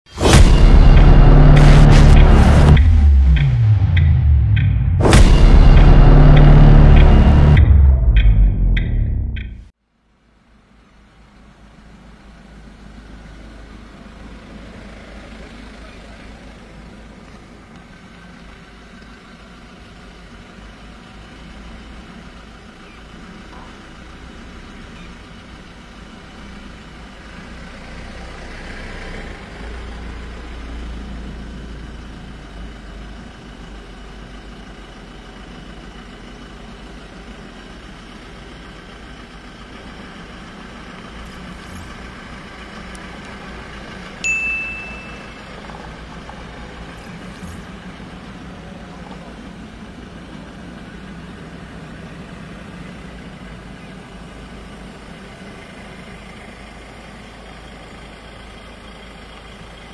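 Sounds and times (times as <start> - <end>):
engine idling: 0.2 - 9.7, 10.3 - 59.9.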